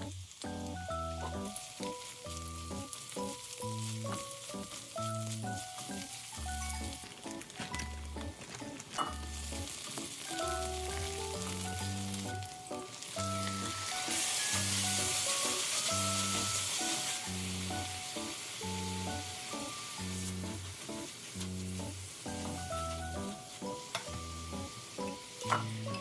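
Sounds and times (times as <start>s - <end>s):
onions and shrimp sizzling in oil: 0.0s - 26.0s.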